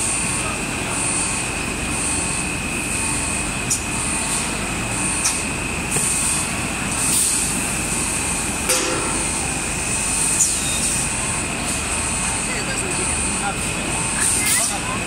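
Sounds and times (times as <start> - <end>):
high machine whine: 0.0 - 15.0
machine rumble and hiss: 0.0 - 15.0.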